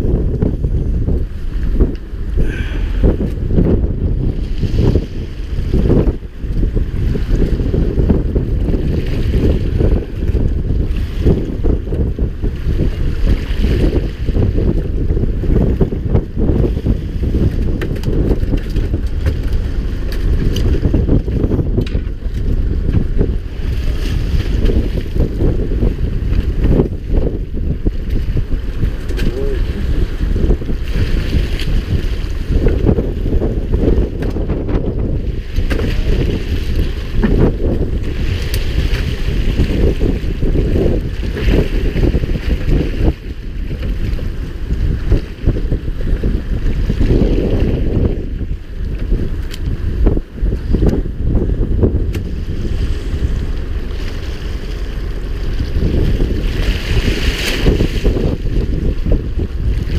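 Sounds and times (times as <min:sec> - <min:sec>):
waves washing: 0:00.0 - 0:59.9
wind buffeting microphone: 0:00.0 - 0:59.9.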